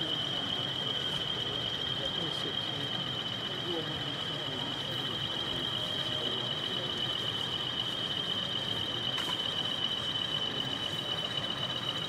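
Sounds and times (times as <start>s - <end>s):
low background murmur: 0.0s - 12.0s
model train high-pitched whine: 0.0s - 12.0s.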